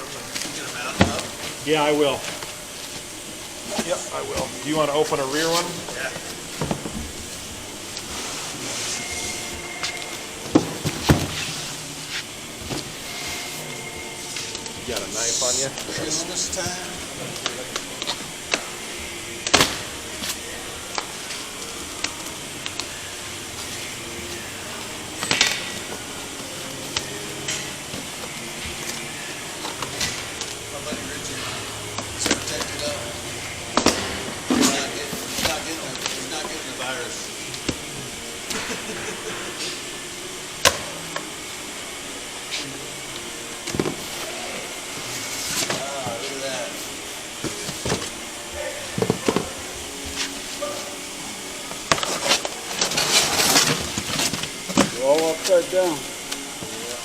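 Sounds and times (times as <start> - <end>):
steady background hiss: 0.0 - 57.0
steady background noise: 0.0 - 57.0.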